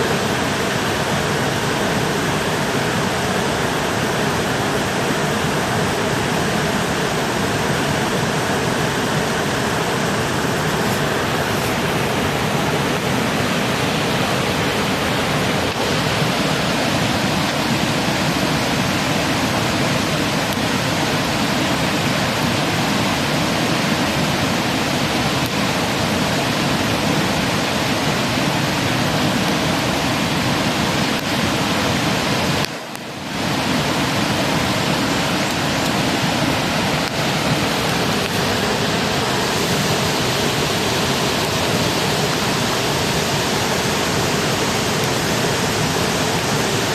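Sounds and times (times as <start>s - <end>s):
running water rushing: 0.0s - 46.9s.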